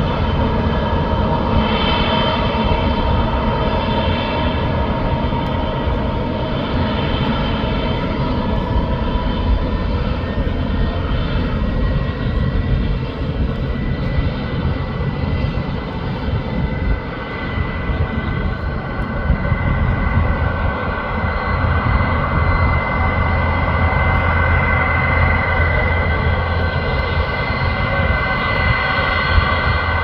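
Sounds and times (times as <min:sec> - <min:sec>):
engine whine: 0:00.0 - 0:30.0
jet engines roaring: 0:00.0 - 0:30.0.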